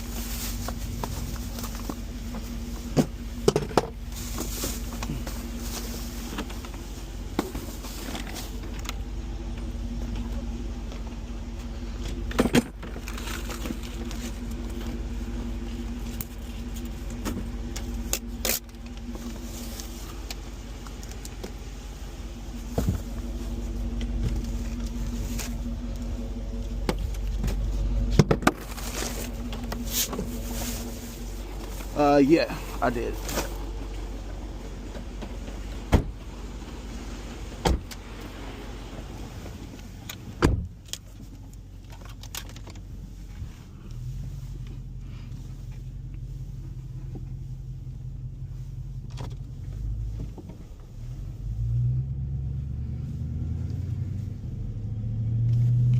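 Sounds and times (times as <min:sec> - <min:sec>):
car cabin hum: 0:00.0 - 0:55.9.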